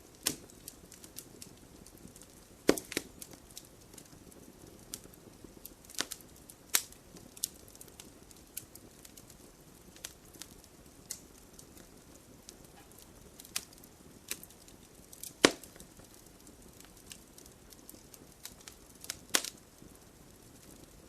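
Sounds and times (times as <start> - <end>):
campfire crackling: 0.0 - 21.0
fire pops and snaps: 0.0 - 21.0
hiss of flame: 0.0 - 21.0.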